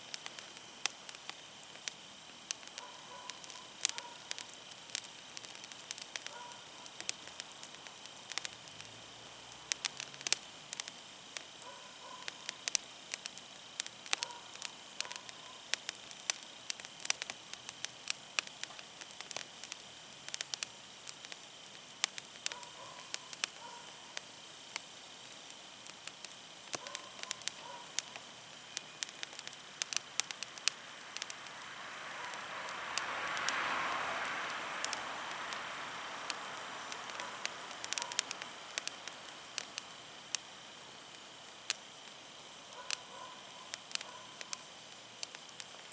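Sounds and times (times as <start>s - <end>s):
campfire crackling and popping: 0.0s - 45.9s
soft hiss: 0.0s - 45.9s.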